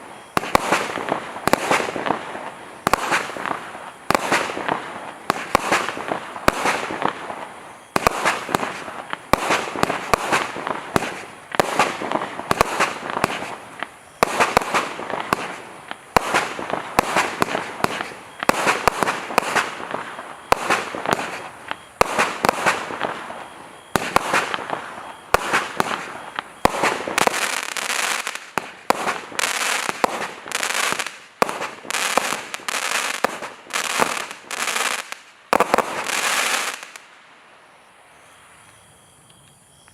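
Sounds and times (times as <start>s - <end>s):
firework bangs: 0.0s - 37.0s.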